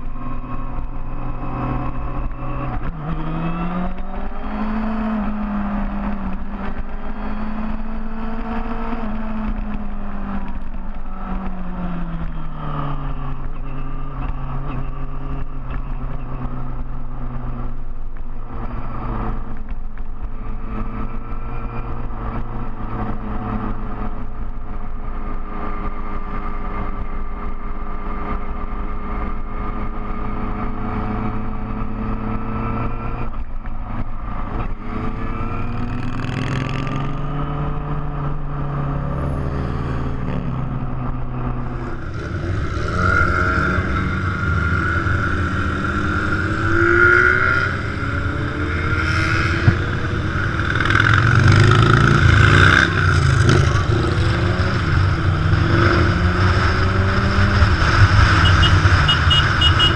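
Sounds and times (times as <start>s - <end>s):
motorcycle engine running: 0.0s - 59.9s
rushing wind: 0.0s - 59.9s.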